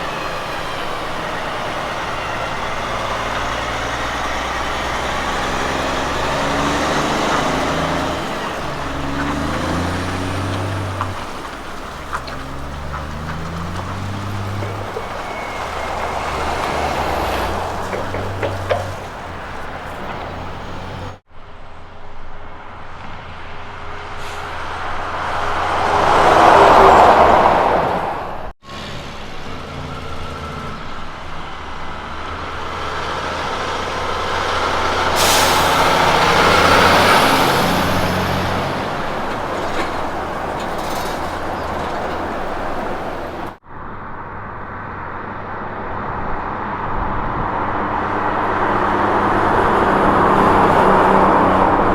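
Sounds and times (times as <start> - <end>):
diesel trucks driving past: 0.0 - 51.9.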